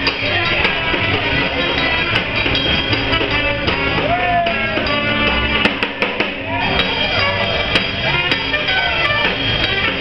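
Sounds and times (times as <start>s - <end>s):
drum kit and cymbals: 0.0s - 10.0s
upright double bass: 0.0s - 10.0s.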